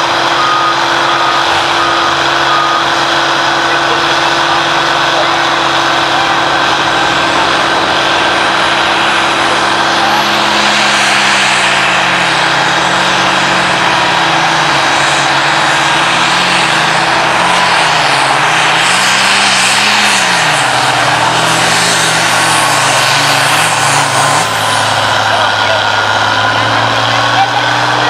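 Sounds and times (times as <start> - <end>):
diesel tractor engine under load: 0.0 - 28.0.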